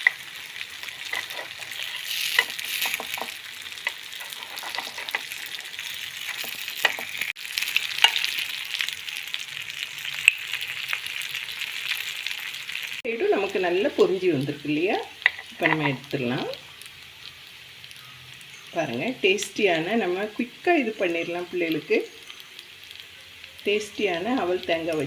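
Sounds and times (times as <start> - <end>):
batter sizzling in oil: 0.0 - 25.0.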